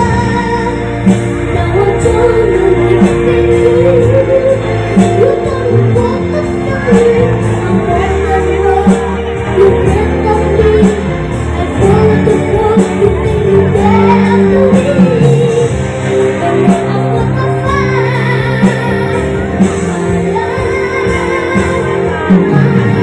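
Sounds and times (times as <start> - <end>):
child singing: 0.0 - 15.7, 16.4 - 23.0
backing track with steady beat: 0.0 - 23.0.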